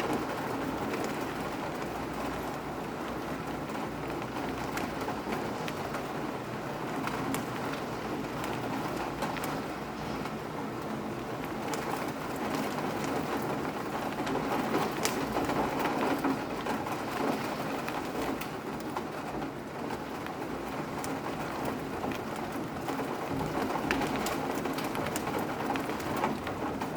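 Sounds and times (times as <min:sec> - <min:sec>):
sharp taps of raindrops: 0:00.0 - 0:26.9
steady rain falling: 0:00.0 - 0:26.9.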